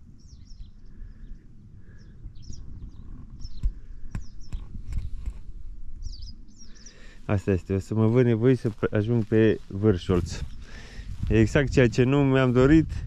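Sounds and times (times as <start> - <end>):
small birds chirping: 0.0 - 12.9
steady low rumble: 0.0 - 13.0.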